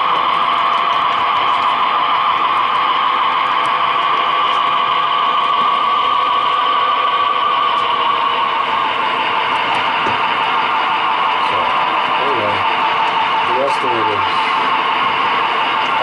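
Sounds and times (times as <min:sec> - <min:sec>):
model train motor whir: 0:00.0 - 0:16.0.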